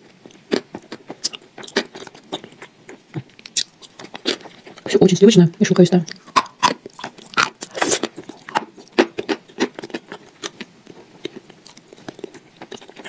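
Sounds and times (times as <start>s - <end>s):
wet mouth eating sounds: 0.2s - 4.9s, 6.1s - 13.0s.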